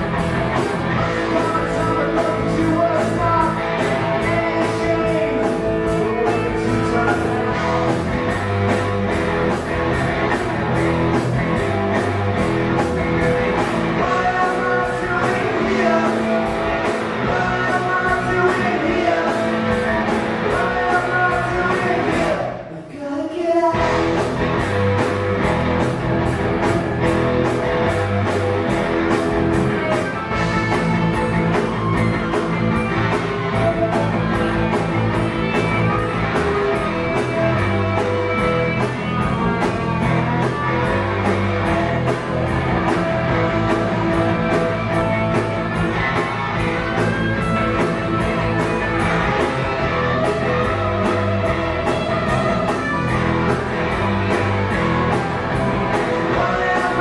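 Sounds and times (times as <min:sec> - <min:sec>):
drums keeping a steady beat: 0:00.0 - 0:22.7, 0:23.7 - 0:57.0
bass guitar: 0:00.0 - 0:22.8, 0:23.7 - 0:57.0
electric guitars: 0:00.0 - 0:22.9, 0:23.7 - 0:57.0.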